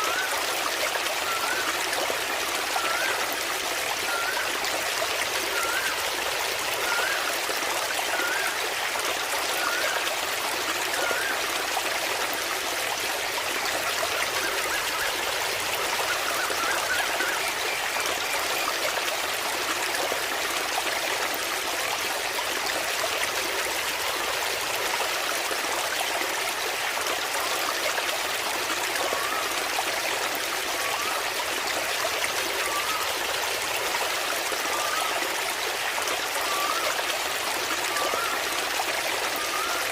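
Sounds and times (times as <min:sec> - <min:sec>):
waterfall water trickling: 0:00.0 - 0:39.9.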